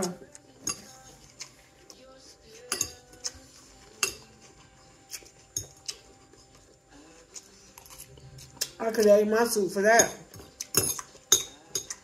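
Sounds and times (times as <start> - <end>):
person chewing noodles: 0.1 - 8.8, 10.3 - 12.0.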